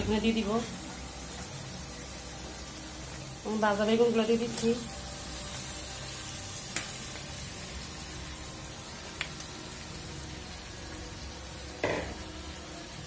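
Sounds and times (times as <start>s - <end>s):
low hiss of frying: 0.0s - 13.0s.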